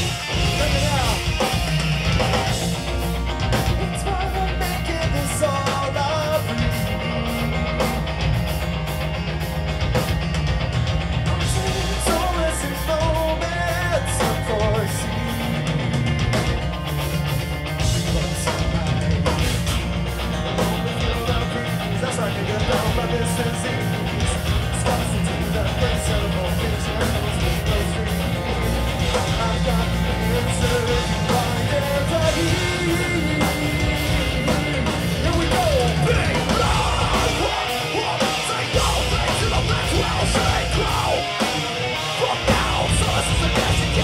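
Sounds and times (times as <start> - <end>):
vocalist singing: 0.0 - 8.2, 11.2 - 16.5, 17.8 - 44.0
metal band playing: 0.0 - 44.0.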